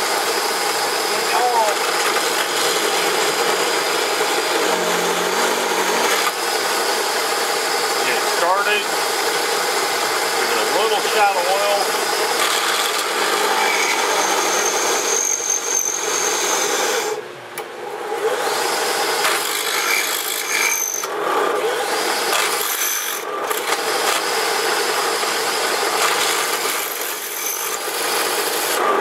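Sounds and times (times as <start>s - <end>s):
drill press boring through metal: 0.0s - 17.2s, 18.3s - 29.0s.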